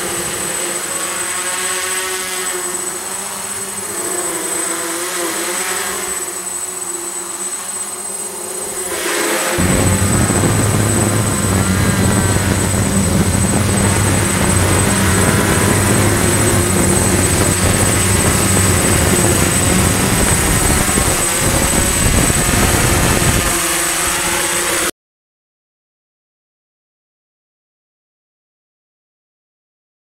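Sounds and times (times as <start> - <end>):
drone motors and propellers buzzing: 0.0 - 24.9.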